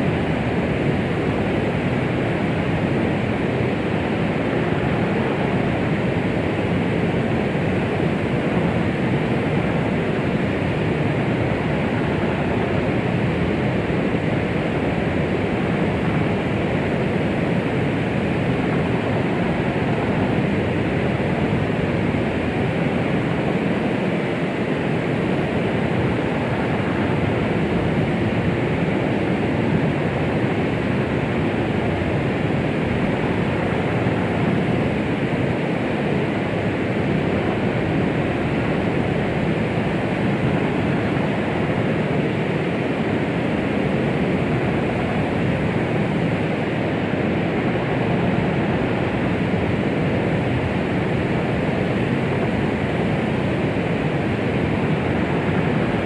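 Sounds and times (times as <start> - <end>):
muffled white noise hiss: 0.0 - 56.0.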